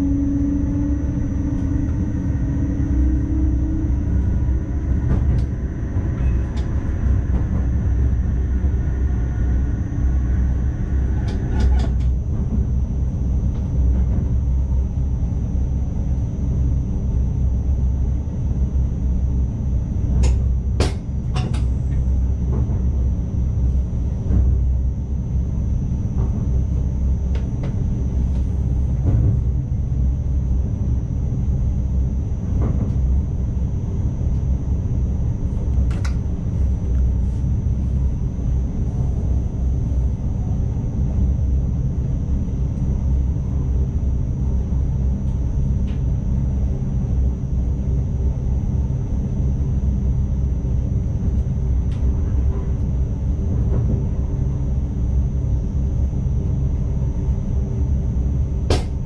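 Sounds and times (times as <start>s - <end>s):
train cab running rumble: 0.0s - 59.0s.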